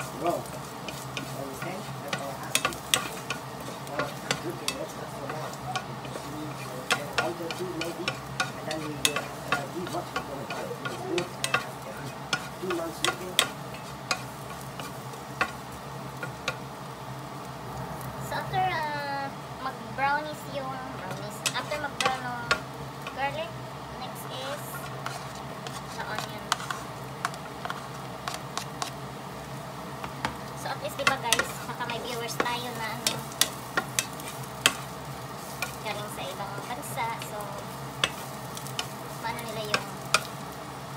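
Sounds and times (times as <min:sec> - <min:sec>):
garlic sizzling in oil: 0:00.0 - 0:40.9.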